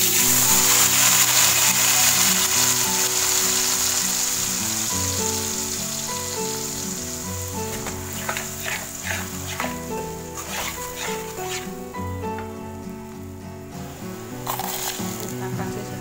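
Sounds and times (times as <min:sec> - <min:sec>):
paste sizzling in hot oil: 0:00.0 - 0:12.0, 0:13.9 - 0:15.7
background music: 0:00.0 - 0:16.0.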